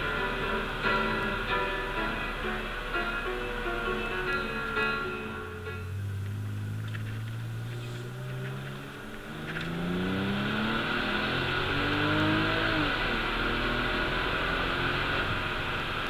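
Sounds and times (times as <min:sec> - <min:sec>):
car engine accelerating: 0:00.0 - 0:16.0
wind and road noise: 0:00.0 - 0:16.0.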